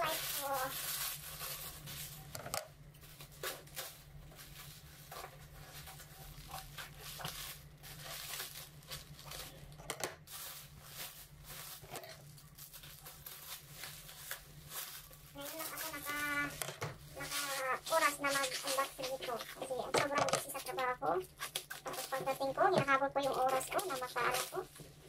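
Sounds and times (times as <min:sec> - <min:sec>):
plastic wrap crinkling and tearing: 0:00.0 - 0:25.0.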